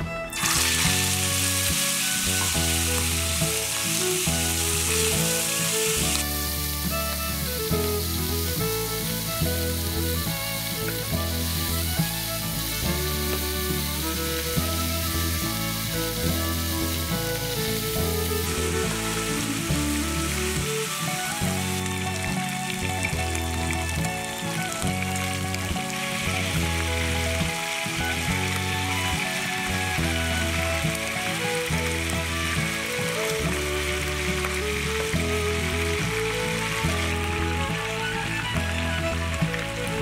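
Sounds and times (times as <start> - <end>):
background music with bass line: 0.0 - 40.0
ribs sizzling in hot oil: 0.3 - 39.2.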